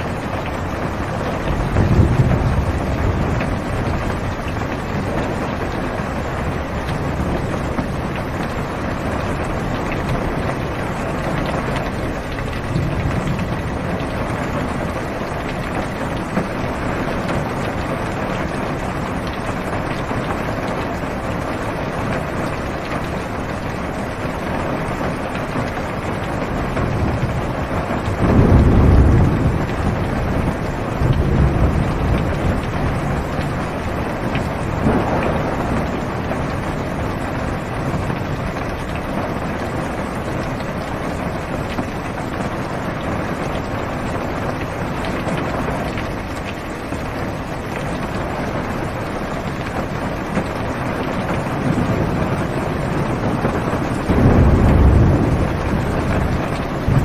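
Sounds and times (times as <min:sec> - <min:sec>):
heavy rain on car roof: 0:00.0 - 0:57.0
thunder rumbling: 0:00.0 - 0:57.0.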